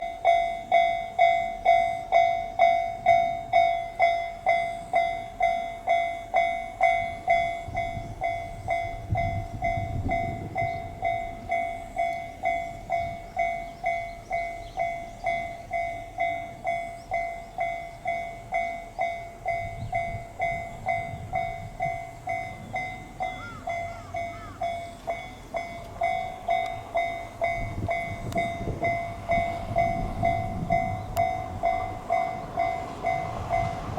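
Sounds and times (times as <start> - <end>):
level crossing bell ringing: 0.0 - 33.9
train low rumble: 0.0 - 33.9.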